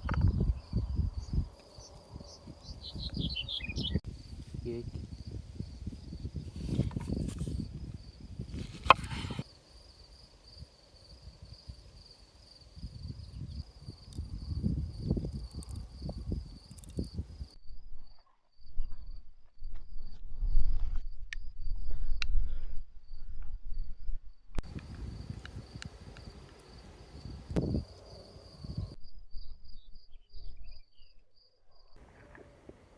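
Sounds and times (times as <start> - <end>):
crickets chirping: 0.0 - 19.2, 24.7 - 32.9.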